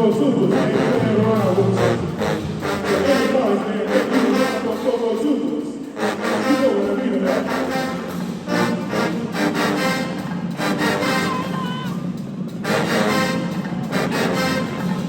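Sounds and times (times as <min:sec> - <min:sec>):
brass instruments: 0:00.0 - 0:15.0
steady drum beat: 0:00.0 - 0:15.0.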